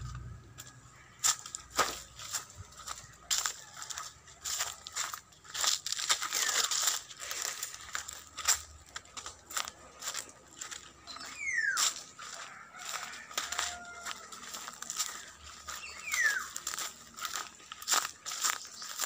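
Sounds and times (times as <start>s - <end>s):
footsteps crunching through dry leaves: 0.1s - 19.0s.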